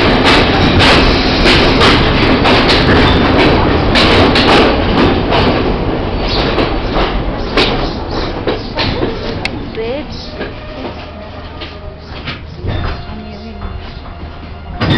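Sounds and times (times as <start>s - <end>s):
clicks over rail joints: 0.0s - 14.9s
train wheels rumbling on rails: 0.0s - 14.9s.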